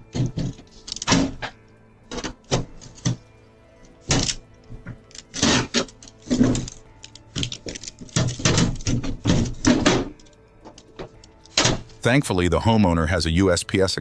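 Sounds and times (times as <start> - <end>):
metallic rattling and clattering: 0.0 - 3.3, 3.9 - 12.1.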